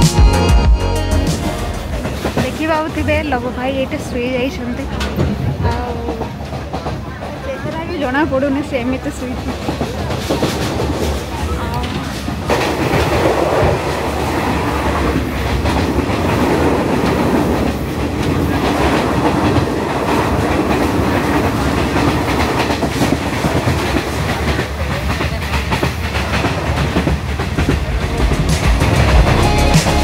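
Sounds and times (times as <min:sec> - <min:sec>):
train rumble inside carriage: 0:01.2 - 0:30.0
wheels clattering on track: 0:01.8 - 0:29.5.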